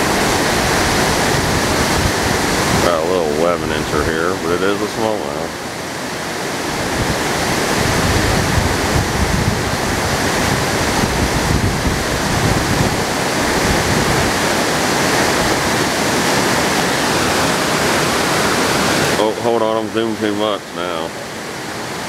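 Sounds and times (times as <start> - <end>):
wind buffeting microphone: 0.0 - 19.6.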